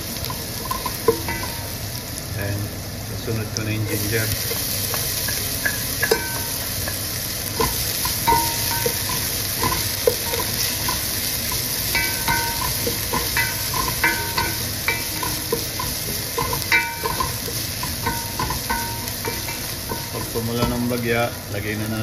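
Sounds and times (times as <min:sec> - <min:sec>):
garlic sizzling in hot oil: 0:00.0 - 0:22.0.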